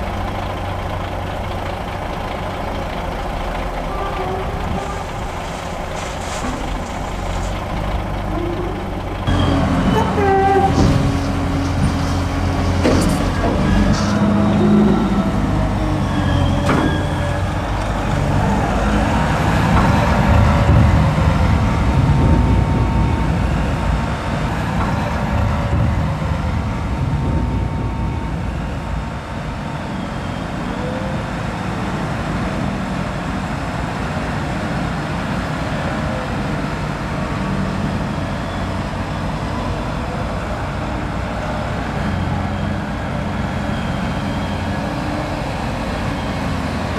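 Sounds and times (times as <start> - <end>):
heavy diesel engines running: 0.0 - 46.9.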